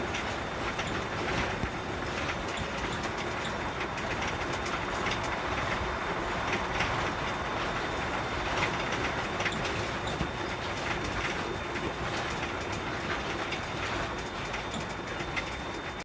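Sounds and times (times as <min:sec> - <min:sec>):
rattles and clicks: 0:00.0 - 0:16.0.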